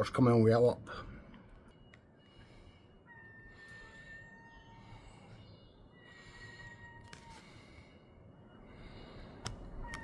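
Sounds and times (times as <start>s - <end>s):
faint outdoor background noise: 0.0s - 10.0s.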